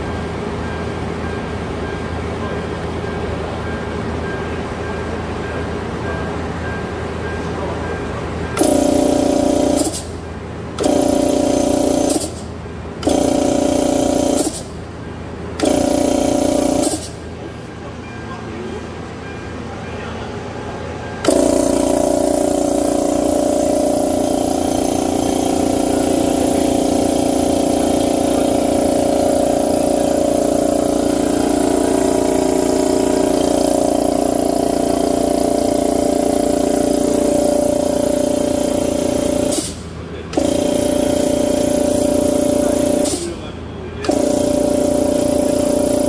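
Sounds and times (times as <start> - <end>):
air compressor humming: 0.0 - 19.2, 20.7 - 46.0.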